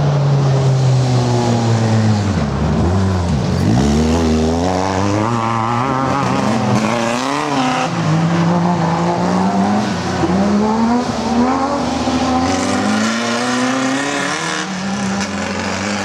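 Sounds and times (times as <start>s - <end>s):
race vehicle engines accelerating: 0.0s - 16.0s.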